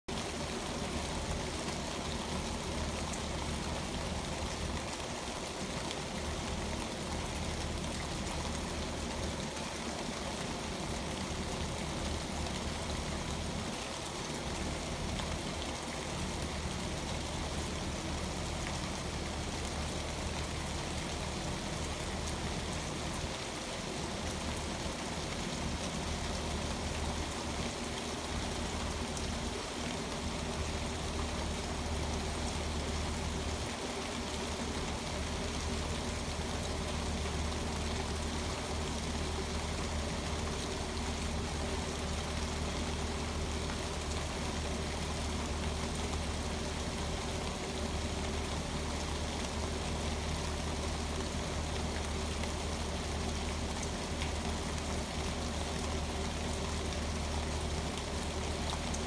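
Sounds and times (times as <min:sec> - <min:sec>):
rain through tree leaves: 0:00.0 - 0:59.0.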